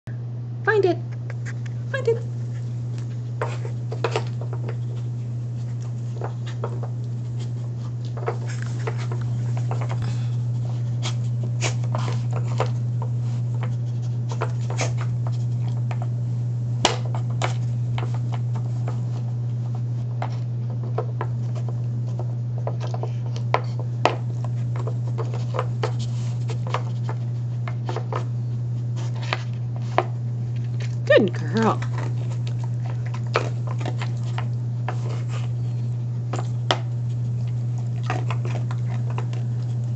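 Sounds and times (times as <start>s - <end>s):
steady low hum: 0.1s - 39.9s.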